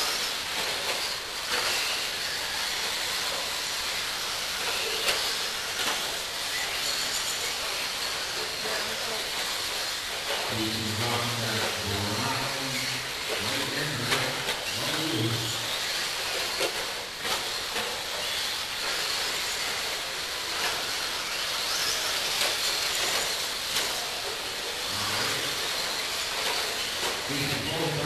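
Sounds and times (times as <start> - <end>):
radio-controlled trucks racing: 0.0 - 28.0.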